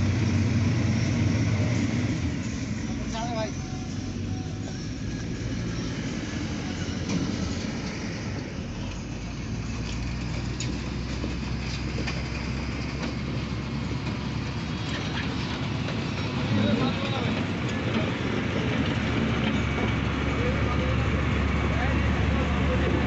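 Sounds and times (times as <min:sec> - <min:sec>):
vehicle rumbling: 0:00.0 - 0:23.0.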